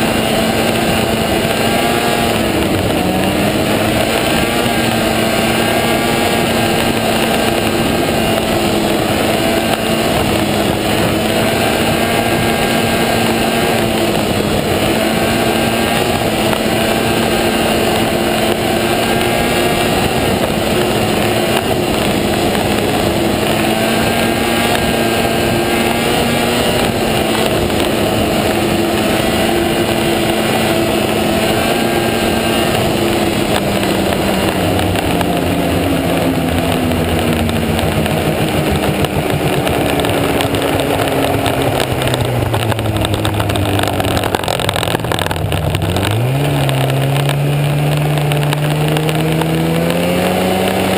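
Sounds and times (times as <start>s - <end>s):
snowmobile engine running: 0.0s - 50.9s
track noise: 0.0s - 50.9s
wind noise: 0.0s - 50.9s.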